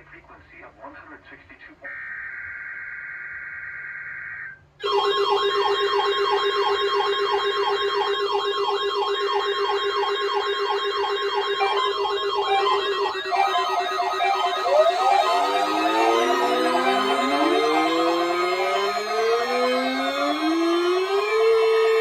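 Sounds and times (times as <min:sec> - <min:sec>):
electronic siren wailing: 0:01.9 - 0:22.0.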